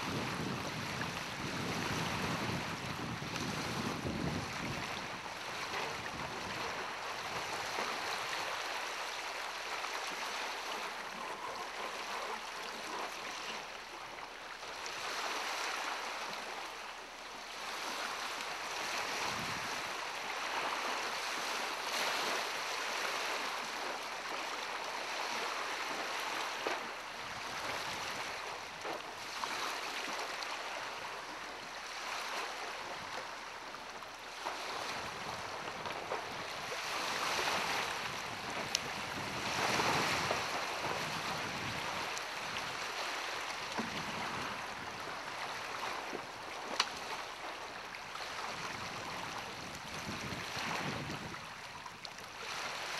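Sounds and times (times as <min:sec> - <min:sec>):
small waves lapping: 0:00.0 - 0:52.9.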